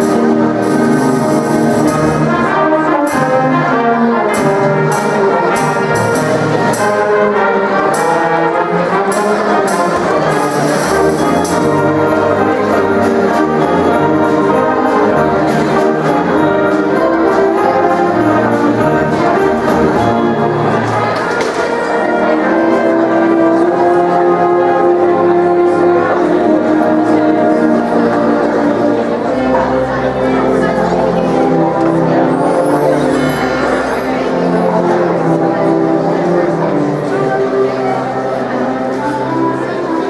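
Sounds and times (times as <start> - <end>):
brass: 0.0 - 40.0
symphonic band playing: 0.0 - 40.0.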